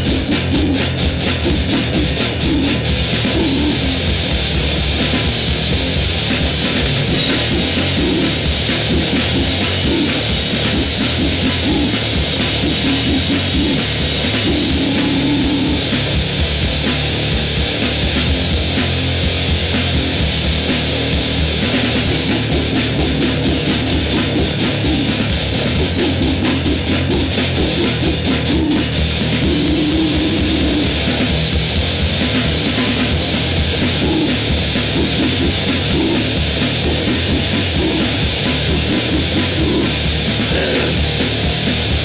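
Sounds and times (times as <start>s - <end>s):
distorted electric guitar: 0.0s - 42.0s
drum kit: 0.0s - 42.0s.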